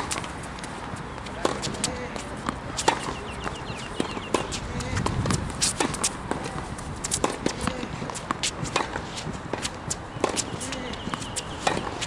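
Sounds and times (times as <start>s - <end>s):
racket striking tennis ball: 0.0s - 12.0s.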